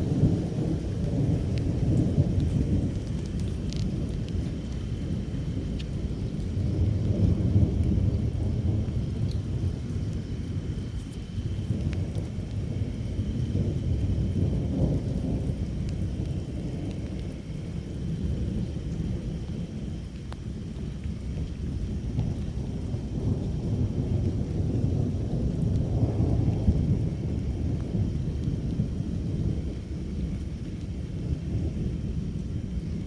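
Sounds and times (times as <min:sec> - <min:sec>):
rain falling: 0:00.0 - 0:33.0
thunder rumbling: 0:00.0 - 0:33.0.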